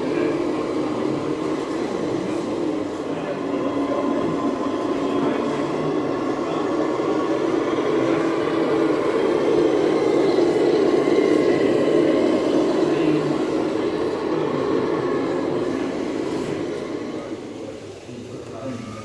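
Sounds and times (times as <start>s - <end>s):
model truck motor drone: 0.0s - 19.0s.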